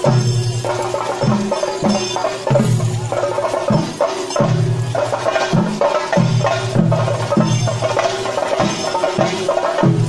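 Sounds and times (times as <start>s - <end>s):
dense metallic ringing: 0.0s - 10.0s
drums struck in steady rhythm: 0.0s - 10.0s.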